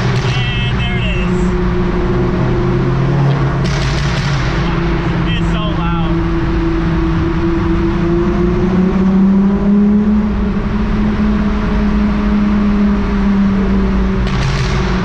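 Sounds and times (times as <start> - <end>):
car engine accelerating: 0.0 - 15.0
low road rumble: 0.0 - 15.0.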